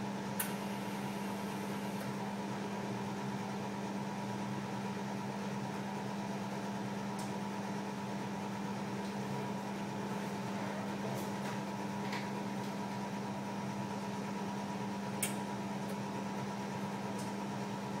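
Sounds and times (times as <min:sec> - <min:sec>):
machine hum with fan hiss: 0:00.0 - 0:18.0.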